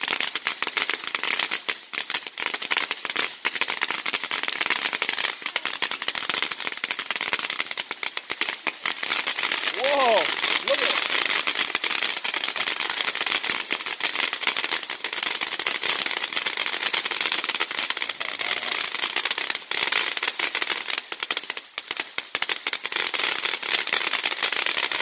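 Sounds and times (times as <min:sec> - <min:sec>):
firework crackling: 0:00.0 - 0:25.0.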